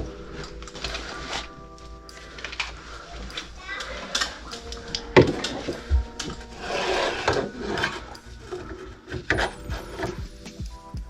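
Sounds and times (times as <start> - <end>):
rubbing and scraping handling noise: 0.1 - 10.2.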